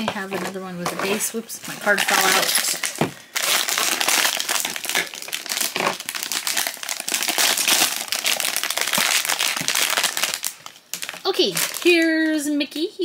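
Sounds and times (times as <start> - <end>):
foil bag crinkling: 0.0 - 12.4
foil bag tearing: 1.0 - 12.0.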